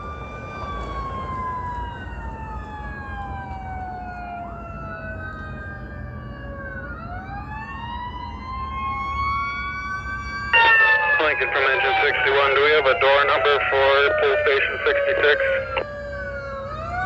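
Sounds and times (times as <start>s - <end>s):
sirens wailing: 0.0s - 17.0s.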